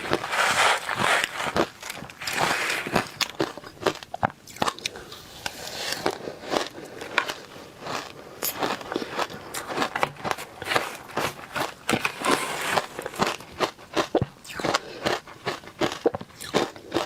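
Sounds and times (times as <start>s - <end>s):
crunching frozen ice: 0.0s - 17.0s.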